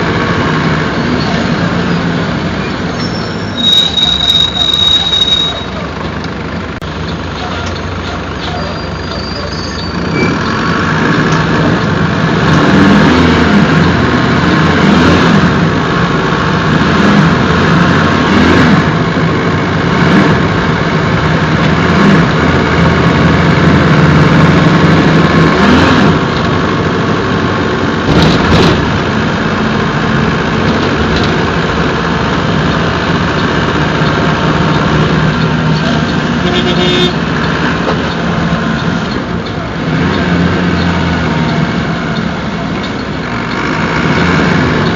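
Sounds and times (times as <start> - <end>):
diesel bus engine running: 0.0 - 44.9.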